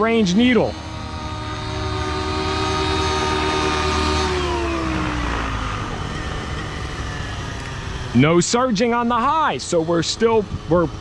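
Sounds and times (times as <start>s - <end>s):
rc helicopter engine and rotors: 0.0s - 11.0s.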